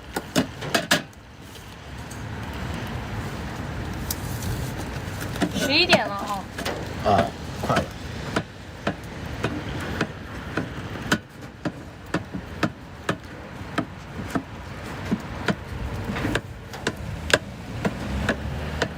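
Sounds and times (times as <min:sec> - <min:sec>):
frying hiss: 0:00.1 - 0:17.2.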